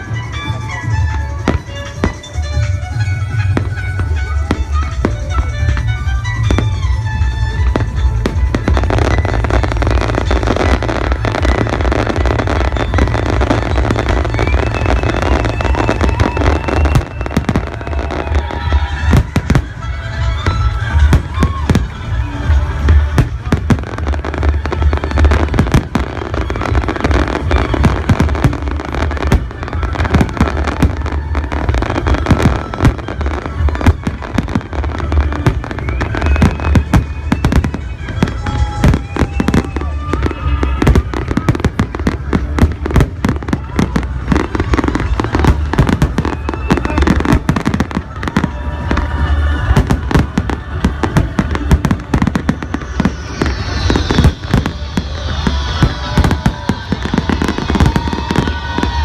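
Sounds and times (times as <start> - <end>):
fireworks bursting: 0.0 - 59.0
music with melody: 0.0 - 59.0.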